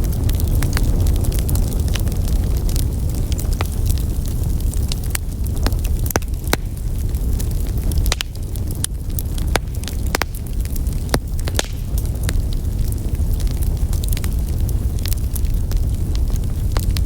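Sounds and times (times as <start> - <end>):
low rumble of flames: 0.0 - 17.0
wood fire pops and snaps: 0.0 - 17.0.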